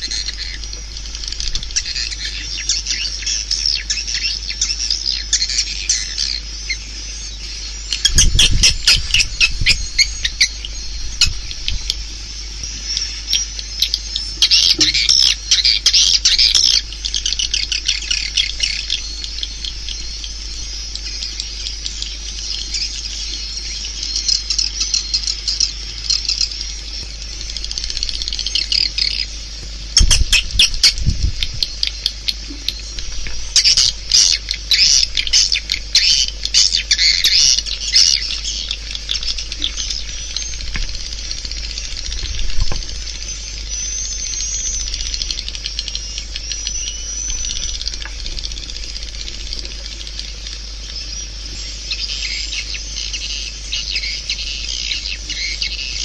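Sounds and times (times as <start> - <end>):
swiftlets twittering: 0.0 - 56.0.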